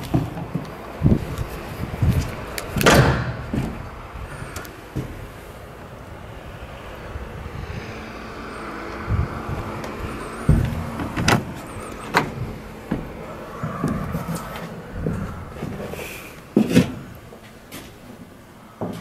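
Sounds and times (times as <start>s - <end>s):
footsteps: 0.0s - 5.9s, 9.1s - 19.0s.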